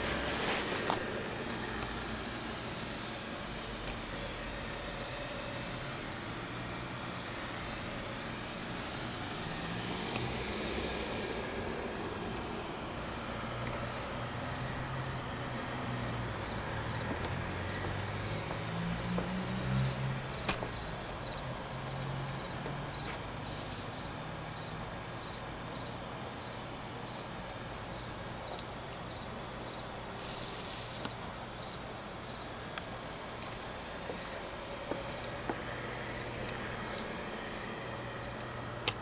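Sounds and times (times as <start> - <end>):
insect chirping: 0.8 - 39.0.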